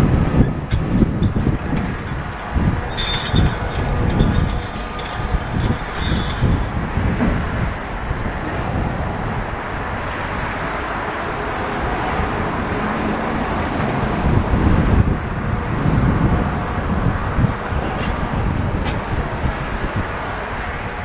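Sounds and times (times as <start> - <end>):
road traffic rumbling: 0.0 - 21.0
wind buffeting microphone: 0.0 - 21.0.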